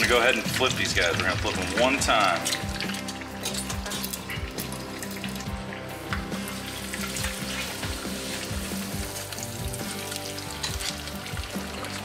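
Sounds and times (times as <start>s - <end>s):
background music: 0.0s - 12.0s
fish deep-frying in hot oil: 0.0s - 12.0s.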